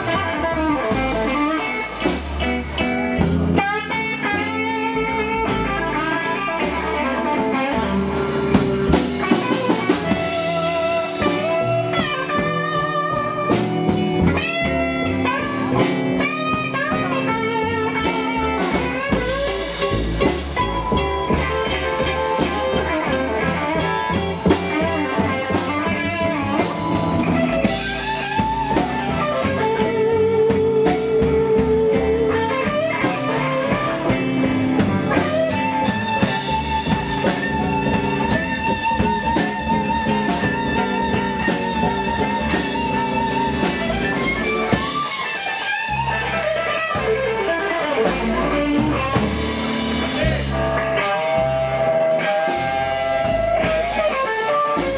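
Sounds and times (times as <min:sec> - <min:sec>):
drums: 0:00.0 - 0:54.9
electric guitar long wavering notes: 0:00.0 - 0:54.9
upright bass: 0:00.0 - 0:54.9.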